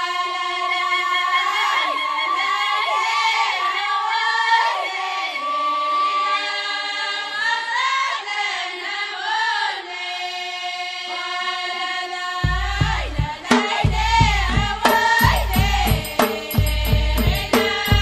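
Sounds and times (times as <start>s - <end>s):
girls singing a chant: 0.0s - 18.0s.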